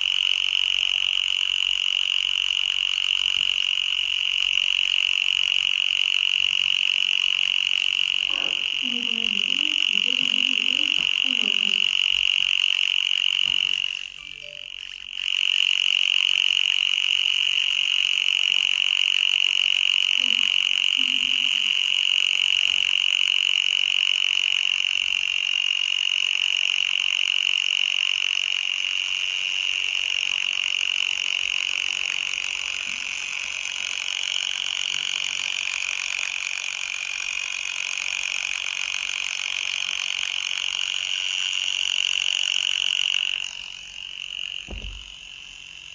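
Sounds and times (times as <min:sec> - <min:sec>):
high-pitched buzzing tone: 0:00.0 - 0:45.9.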